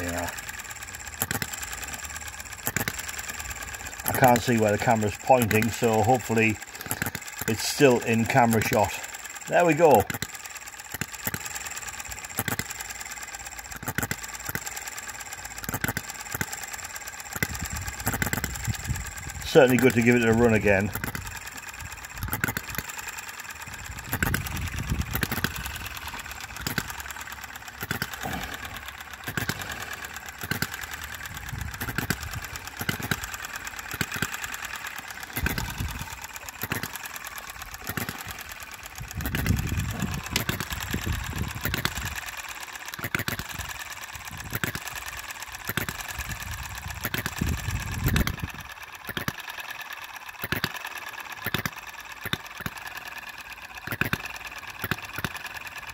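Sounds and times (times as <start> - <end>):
engine firing strokes: 0.0 - 49.4
fast steady ticking: 0.0 - 55.9.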